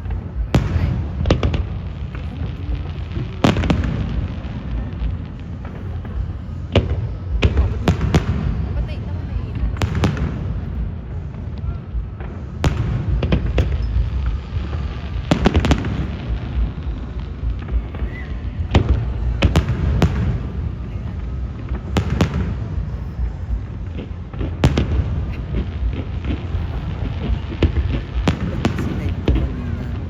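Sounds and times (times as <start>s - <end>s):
fireworks bangs and booms: 0.0s - 30.0s
low rumble of bursts: 0.0s - 30.0s.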